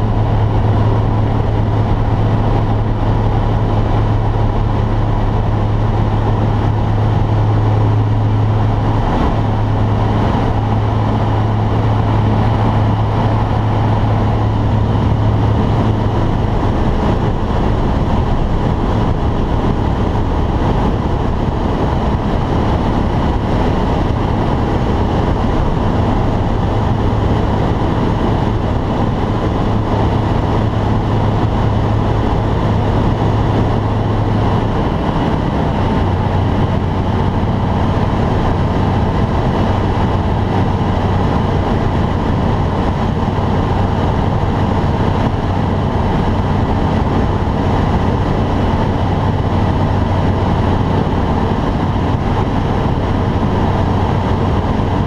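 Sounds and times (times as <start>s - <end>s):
aircraft piston engine and propeller: 0.0s - 55.0s
airflow noise: 0.0s - 55.0s.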